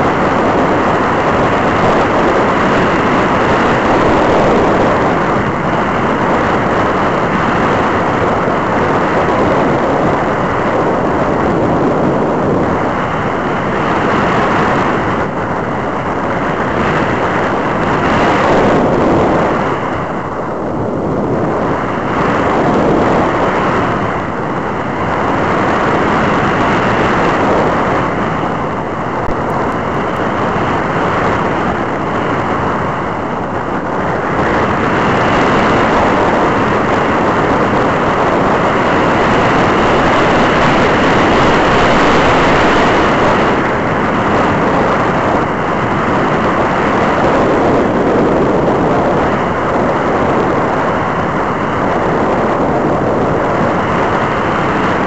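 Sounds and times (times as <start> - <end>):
air rushing over camera: 0.0 - 55.0.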